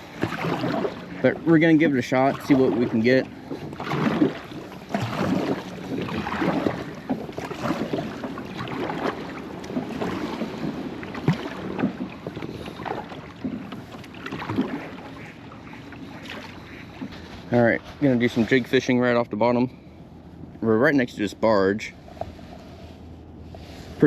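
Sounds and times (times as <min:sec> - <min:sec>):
water splashing around a kayak: 0:00.0 - 0:19.6.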